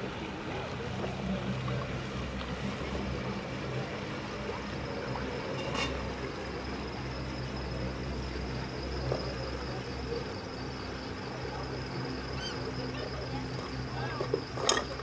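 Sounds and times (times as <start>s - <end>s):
distant motorboat engine drone: 0.0s - 15.0s.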